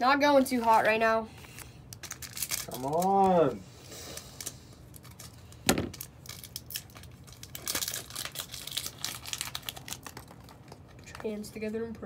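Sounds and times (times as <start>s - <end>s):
foil wrapper crinkling and tearing: 0.6s - 11.5s.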